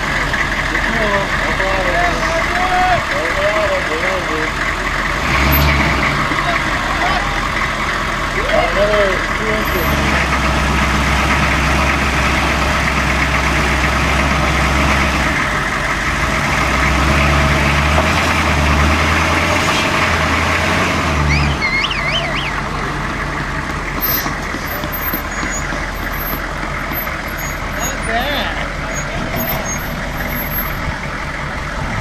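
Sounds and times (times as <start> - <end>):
truck engine running at low revs: 0.0 - 32.0.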